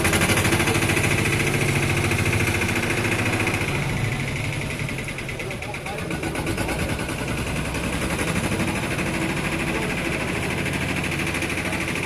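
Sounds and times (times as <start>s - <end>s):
small engine idling with chugging: 0.0s - 12.0s.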